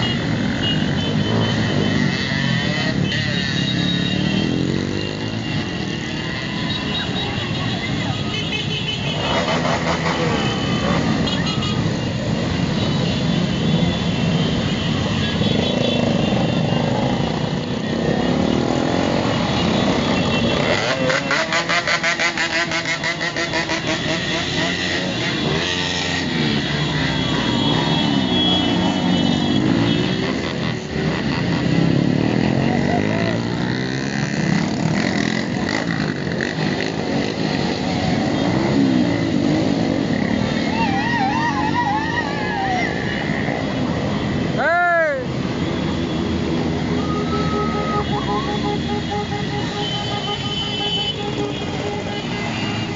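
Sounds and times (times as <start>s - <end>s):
motorcycle engines running: 0.0s - 52.9s.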